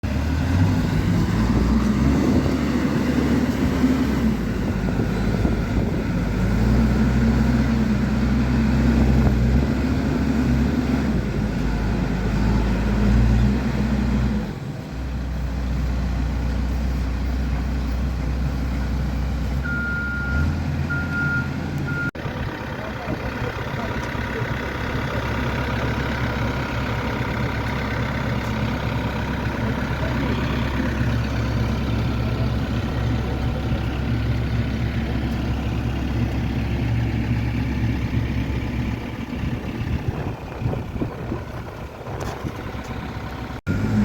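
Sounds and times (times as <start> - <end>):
large engine idling: 0.0 - 13.0, 14.2 - 44.0.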